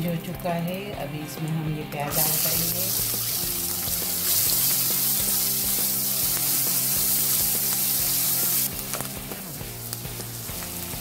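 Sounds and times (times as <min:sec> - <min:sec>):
background music: 0:00.0 - 0:11.0
onions sizzling in hot oil: 0:01.9 - 0:11.0.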